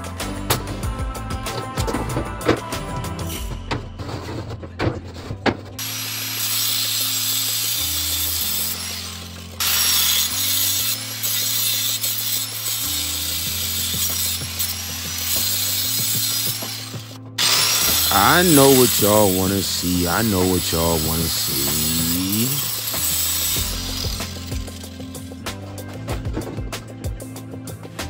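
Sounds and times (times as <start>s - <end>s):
background music with bass line: 0.0s - 28.0s
rasping mechanical noise: 1.2s - 27.0s.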